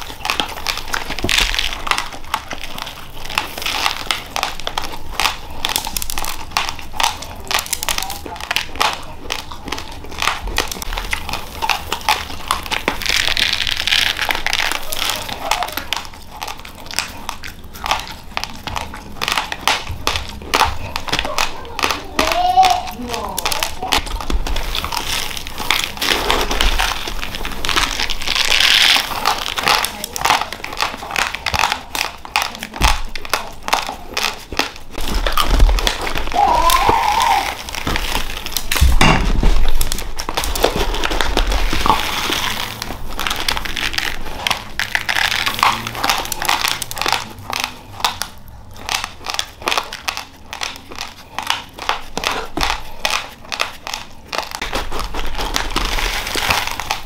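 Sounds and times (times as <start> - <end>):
plastic bag crinkling: 0.0 - 57.0
rice grains crunching: 0.0 - 57.0.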